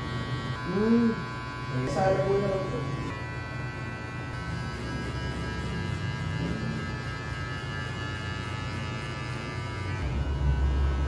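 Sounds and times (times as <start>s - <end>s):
hair clippers buzzing: 0.0s - 11.0s.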